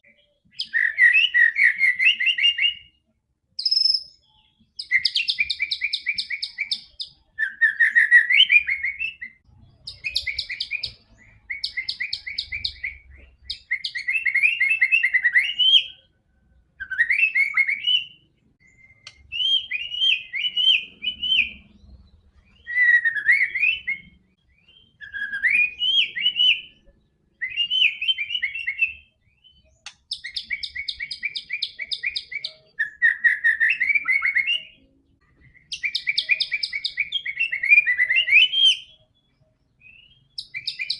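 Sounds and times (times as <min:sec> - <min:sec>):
songbird singing trills and whistles: 0:00.0 - 0:40.9.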